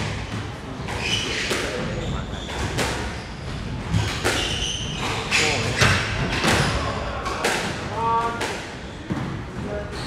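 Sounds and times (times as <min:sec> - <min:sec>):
sneakers squeaking on wooden floor: 0:00.0 - 0:07.2, 0:08.8 - 0:10.0.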